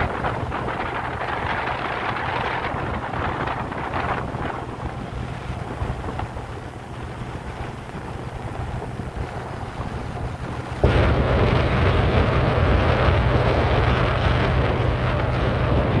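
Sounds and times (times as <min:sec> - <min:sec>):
boat motor humming: 0:00.0 - 0:16.0
wind on microphone: 0:00.0 - 0:16.0.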